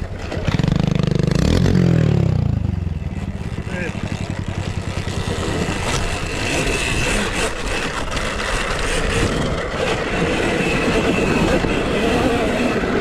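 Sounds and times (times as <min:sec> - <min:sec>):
motor vehicle engine running: 0:00.0 - 0:13.0.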